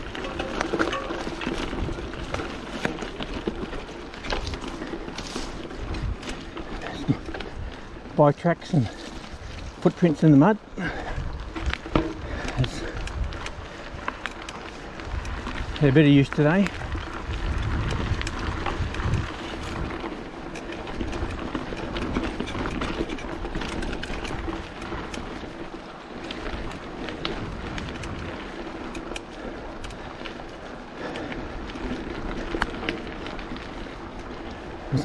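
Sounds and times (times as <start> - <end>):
bike clicks and rattles: 0.0 - 35.0
bike tyres on dirt track: 0.0 - 35.0.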